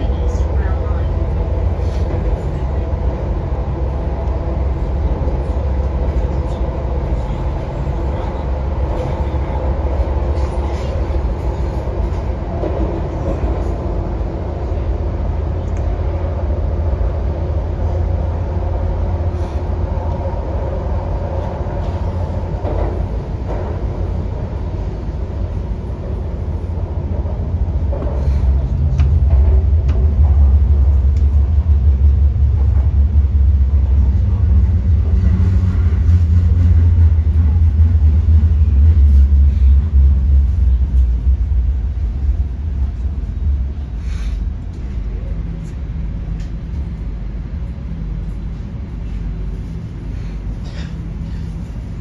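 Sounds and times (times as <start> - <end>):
train hum: 0.0 - 52.0
train wheels rumbling on track: 0.0 - 52.0.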